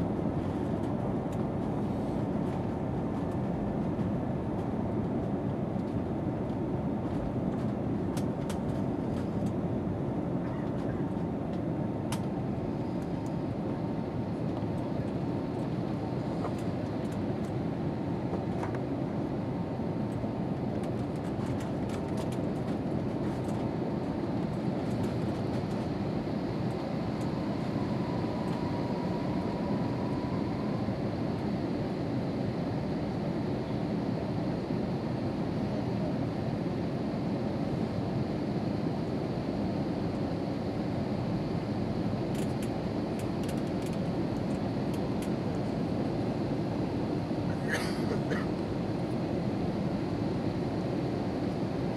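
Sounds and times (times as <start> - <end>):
faint steady whine: 0.0 - 51.9
jet engine cabin rumble: 0.0 - 51.9.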